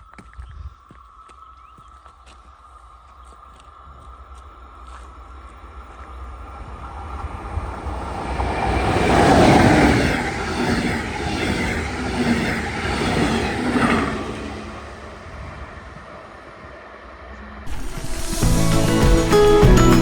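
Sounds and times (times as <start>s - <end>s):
train passing: 2.7s - 20.0s.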